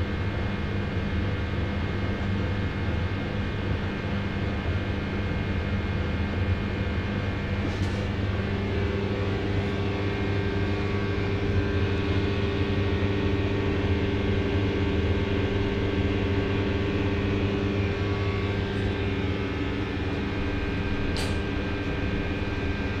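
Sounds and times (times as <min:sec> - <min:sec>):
washing machines motor hum: 0:00.0 - 0:23.0.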